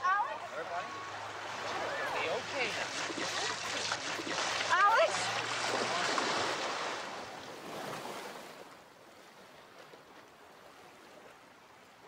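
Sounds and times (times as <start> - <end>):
small waves washing on a beach: 0.0 - 12.0.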